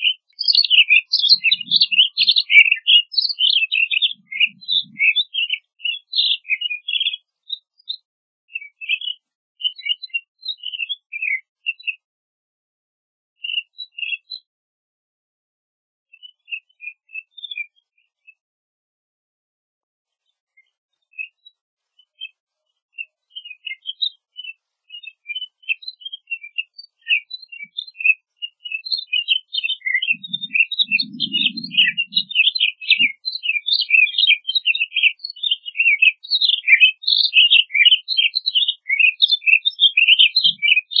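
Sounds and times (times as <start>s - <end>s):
bird chirping song: 0.0s - 12.1s, 13.4s - 14.5s, 16.1s - 18.4s, 20.1s - 41.0s.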